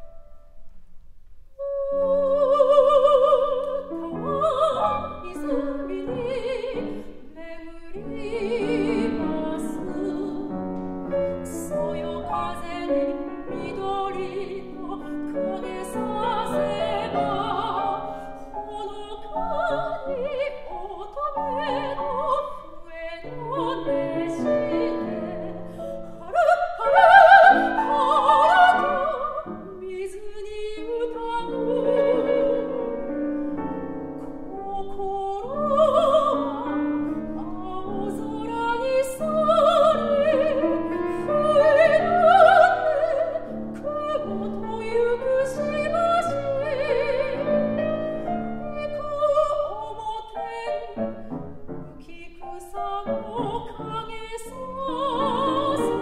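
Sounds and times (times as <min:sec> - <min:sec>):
grand piano: 0:00.0 - 0:56.0
soprano singing with vibrato: 0:01.6 - 0:51.3, 0:52.0 - 0:56.0.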